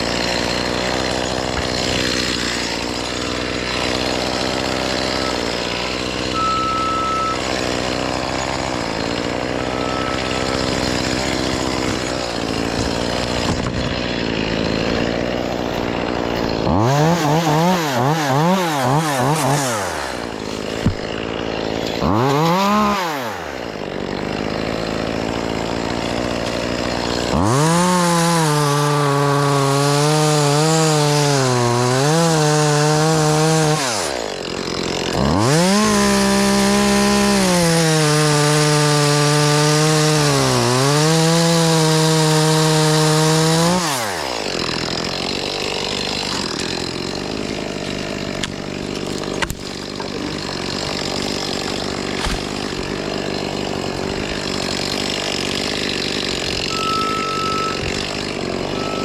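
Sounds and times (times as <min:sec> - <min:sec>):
chainsaw revving and cutting: 0:00.0 - 0:59.0.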